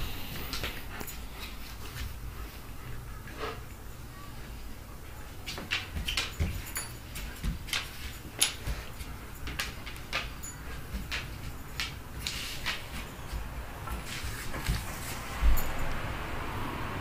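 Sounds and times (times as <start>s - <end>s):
paws scuffing and scraping floor: 0.3s - 3.7s, 5.1s - 16.0s.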